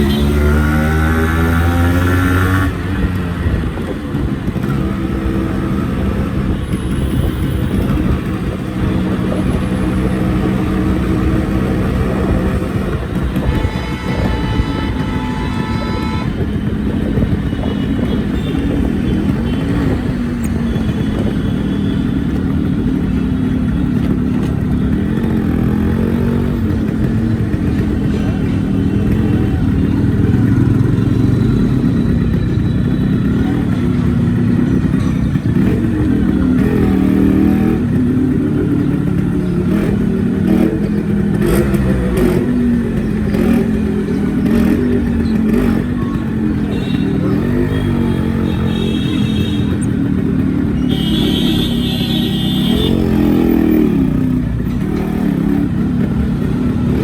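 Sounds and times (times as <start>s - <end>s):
two-stroke motorcycle engine: 0.0s - 57.0s.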